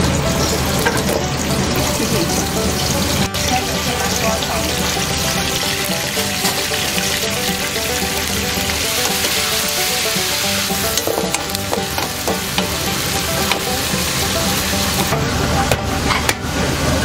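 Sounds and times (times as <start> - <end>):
meat sizzling in hot oil: 0.0 - 16.6
spatula scraping a pan: 0.4 - 16.5.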